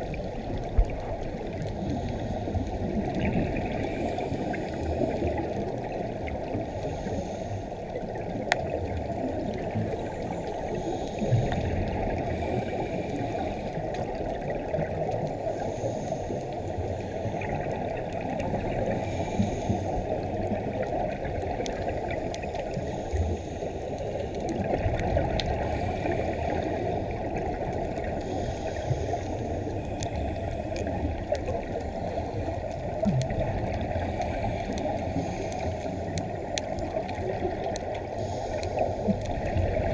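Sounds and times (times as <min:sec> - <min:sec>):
muffled underwater noise: 0:00.0 - 0:39.9.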